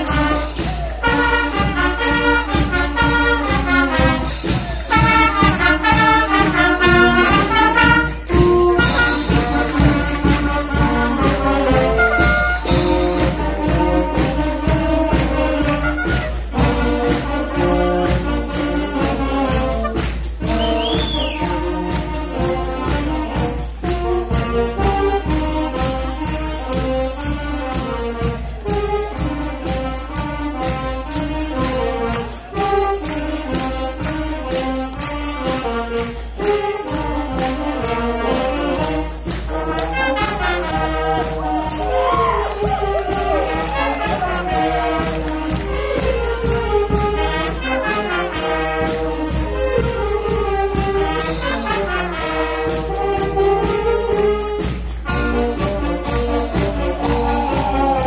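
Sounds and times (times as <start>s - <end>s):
steady percussion beat: 0.0s - 58.0s
wind band playing: 0.0s - 58.0s.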